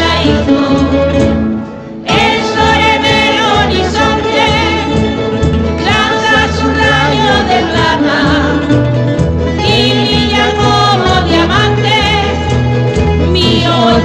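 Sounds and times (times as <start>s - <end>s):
voices singing with vibrato: 0.0s - 1.3s, 2.0s - 8.9s, 9.6s - 14.0s
plucked strings: 0.0s - 14.0s.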